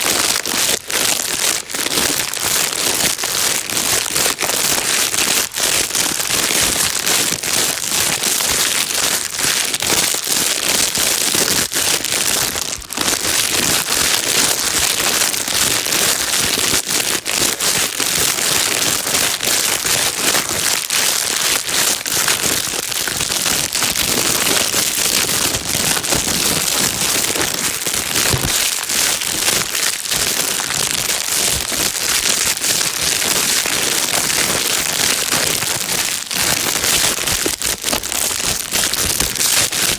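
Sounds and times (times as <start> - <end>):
plastic bag crinkling: 0.0 - 39.9.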